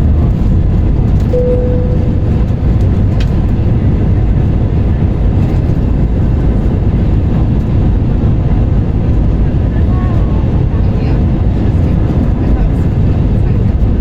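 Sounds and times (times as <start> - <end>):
jet engine rumble in cabin: 0.0 - 14.0.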